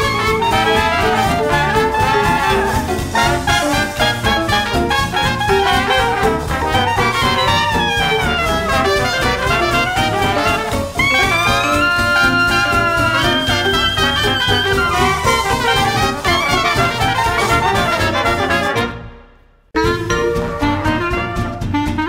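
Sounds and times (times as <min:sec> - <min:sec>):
up-tempo jazz with brass: 0:00.0 - 0:22.0.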